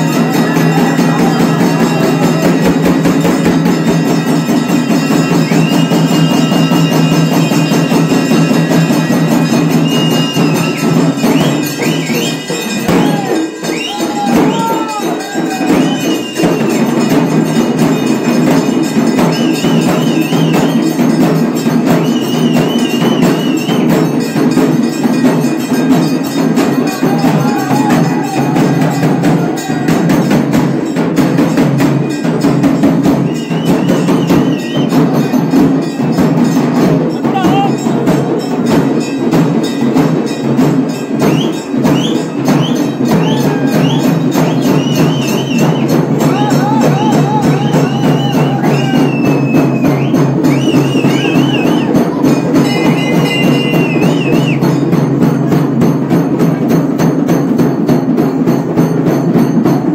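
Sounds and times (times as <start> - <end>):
loud festival drumming: 0.0 - 59.9
temple bells ringing rapidly: 0.0 - 59.9.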